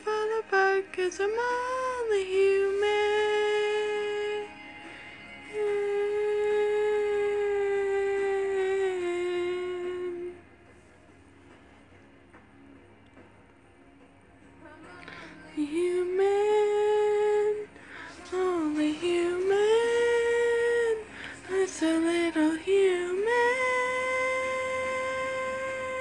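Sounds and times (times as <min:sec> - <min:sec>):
woman singing long held notes: 0:00.0 - 0:10.6, 0:14.6 - 0:26.0.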